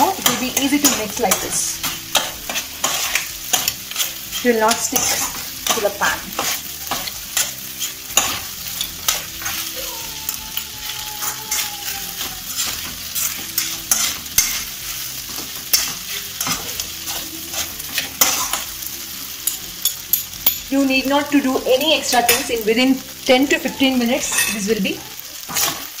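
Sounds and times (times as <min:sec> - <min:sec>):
spoon scraping on pan: 0:00.0 - 0:20.7, 0:21.7 - 0:26.0
food sizzling: 0:00.0 - 0:26.0.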